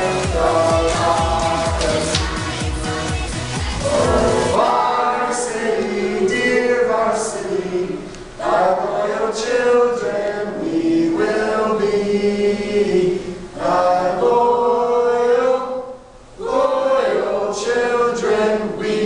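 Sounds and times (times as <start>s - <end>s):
group chanting a song: 0.0s - 19.0s.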